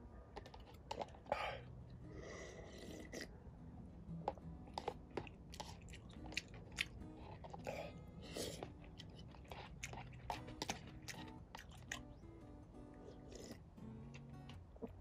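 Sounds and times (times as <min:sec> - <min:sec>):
chewing and crunching: 0:00.3 - 0:03.4, 0:04.1 - 0:15.0.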